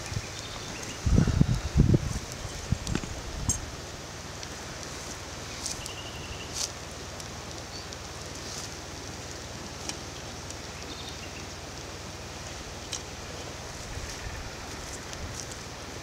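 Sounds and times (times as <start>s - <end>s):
campfire hissing and crackling: 0.0s - 16.0s.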